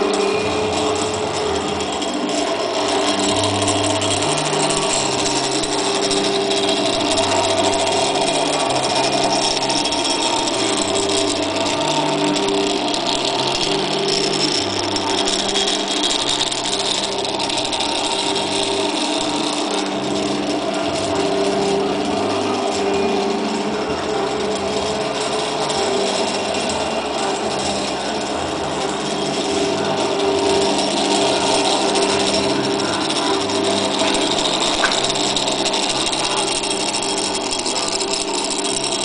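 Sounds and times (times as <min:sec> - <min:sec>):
stepper motors humming: 0:00.0 - 0:39.0.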